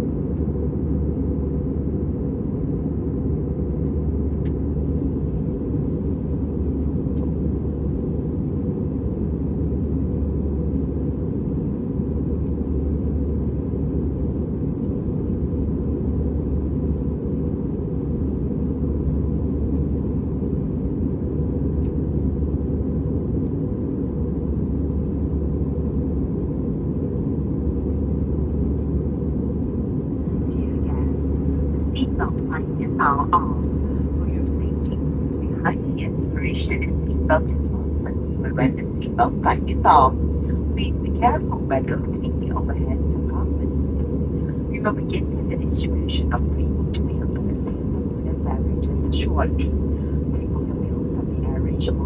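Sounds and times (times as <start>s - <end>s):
aircraft cabin engine roar: 0.0s - 52.0s
faint steady hum: 0.0s - 52.0s.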